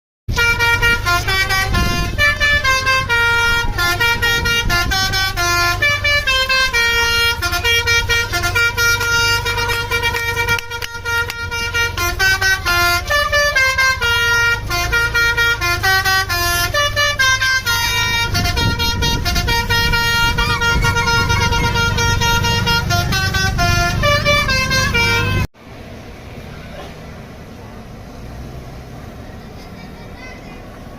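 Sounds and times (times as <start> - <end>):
musical air horn melody: 0.3 - 25.5.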